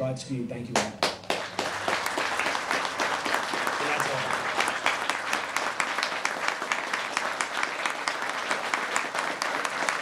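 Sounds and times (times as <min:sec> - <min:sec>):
audience applauding: 0:00.8 - 0:10.0.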